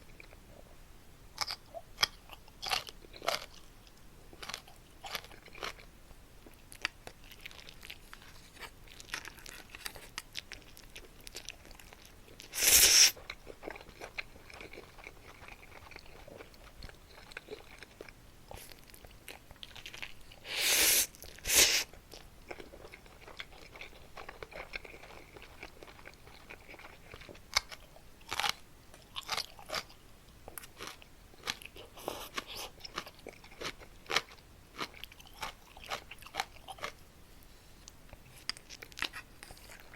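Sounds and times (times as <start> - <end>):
crunching and chewing snack: 1.3 - 20.4, 21.1 - 37.0, 37.8 - 39.9.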